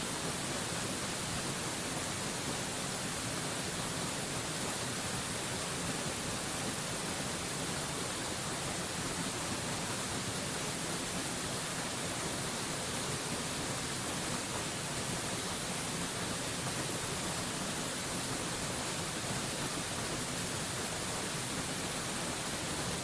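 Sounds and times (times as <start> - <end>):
waterfall rushing: 0.1 - 23.0.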